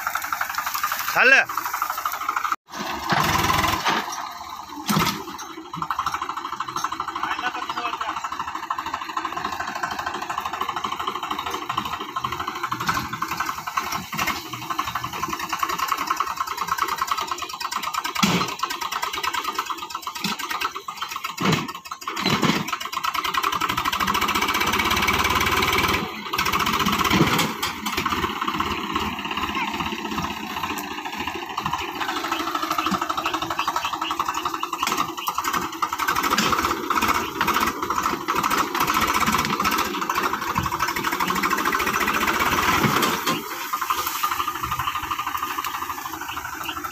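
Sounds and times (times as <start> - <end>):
tractor diesel engine under load: 0.0 - 46.9
tractor pushing through bushes: 0.0 - 46.9.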